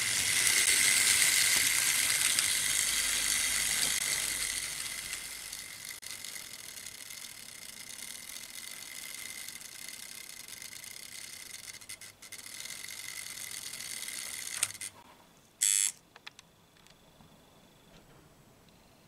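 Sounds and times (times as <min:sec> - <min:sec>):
model train motor running: 0:00.0 - 0:15.0, 0:15.6 - 0:16.0.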